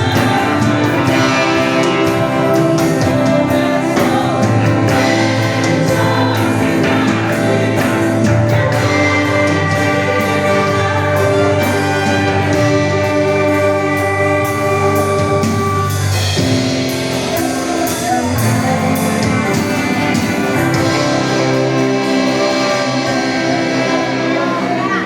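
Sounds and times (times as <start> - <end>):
instruments playing held chords: 0.0 - 25.0.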